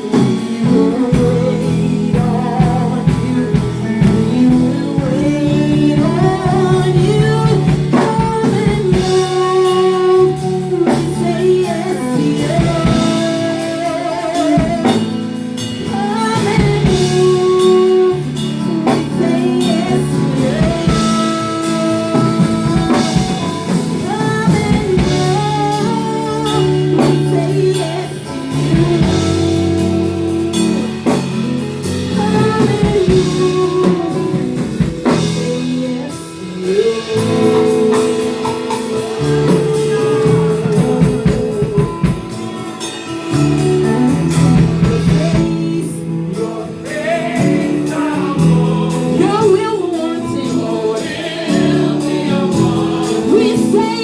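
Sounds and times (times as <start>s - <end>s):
drum kit: 0.0s - 54.0s
guitar: 0.0s - 54.0s
people singing: 0.0s - 54.0s.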